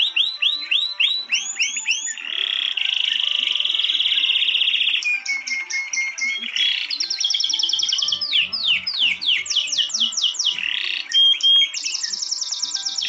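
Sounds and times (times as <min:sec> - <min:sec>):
birds singing trills: 0:00.0 - 0:13.0
loud held bird whistles: 0:00.0 - 0:13.0
soft background music: 0:00.0 - 0:13.0.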